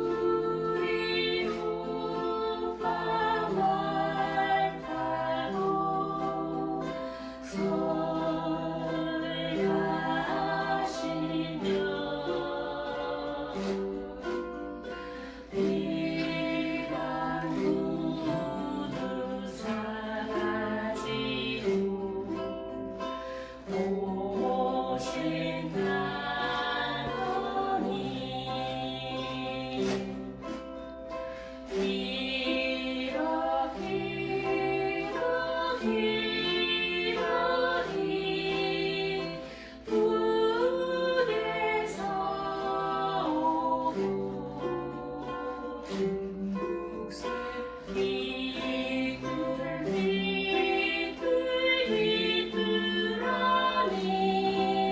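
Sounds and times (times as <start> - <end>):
group of voices singing: 0.0 - 54.9
ukulele: 0.0 - 54.9.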